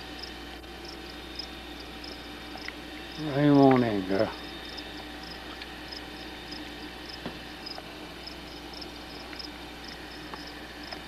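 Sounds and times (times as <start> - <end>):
insects chirping: 0.0 - 11.0
steady low hum: 0.0 - 11.0.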